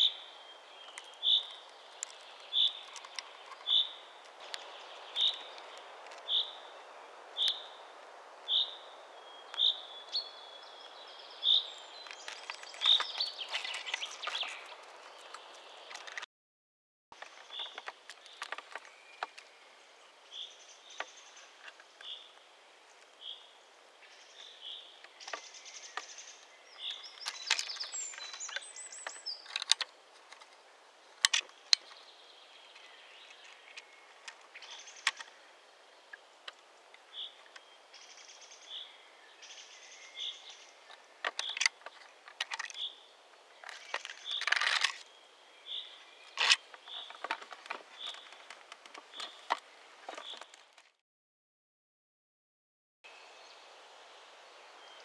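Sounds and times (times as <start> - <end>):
twigs rustling and crackling: 0.0 - 10.2, 10.8 - 16.3, 17.2 - 19.8, 20.6 - 37.7, 39.6 - 51.0.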